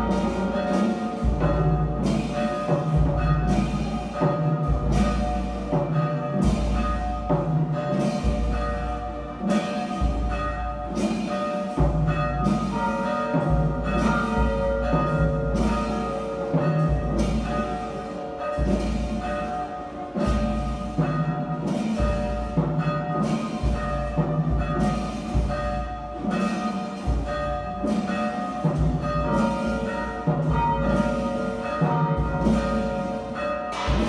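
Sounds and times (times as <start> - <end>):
church bells tolling: 0.0 - 34.0.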